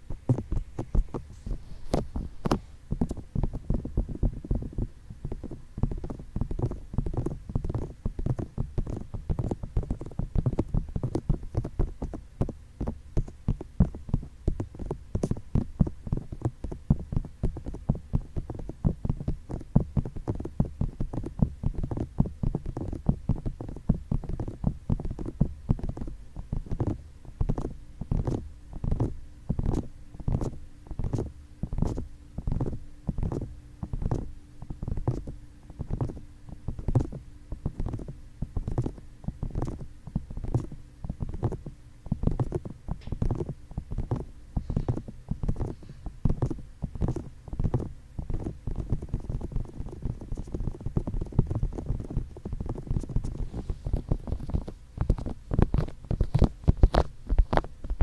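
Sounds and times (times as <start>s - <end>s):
fingertips tapping on microphone: 0.0s - 58.0s.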